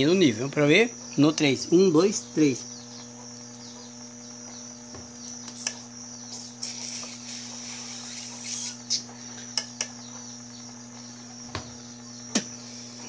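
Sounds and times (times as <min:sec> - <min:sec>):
solenoid valve humming: 0:00.0 - 0:13.0.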